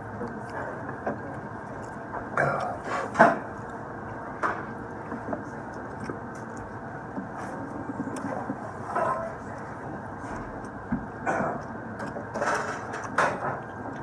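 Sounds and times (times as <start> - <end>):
room hum: 0.0 - 14.0
person chewing: 0.3 - 14.0.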